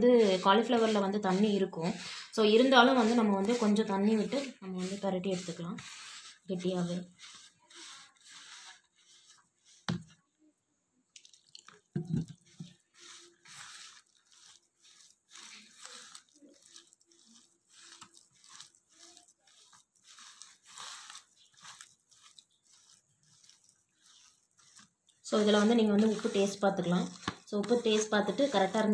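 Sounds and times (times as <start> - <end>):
hand mixing wet batter: 0.0 - 10.3, 11.1 - 28.9.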